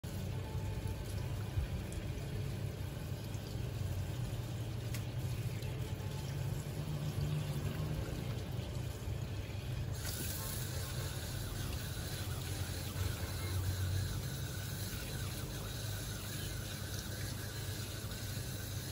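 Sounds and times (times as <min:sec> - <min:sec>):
tap water running: 0:00.0 - 0:18.9.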